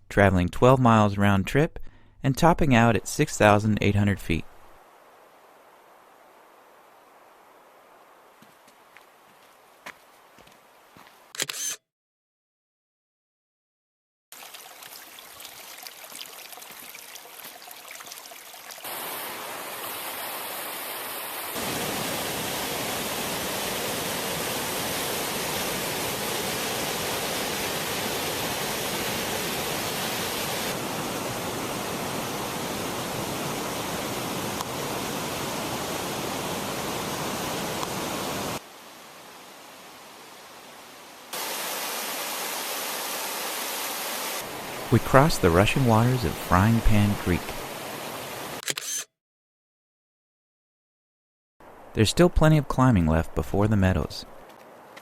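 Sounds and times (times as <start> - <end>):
creek water rushing: 4.4 - 10.9, 14.4 - 48.6, 51.6 - 55.0.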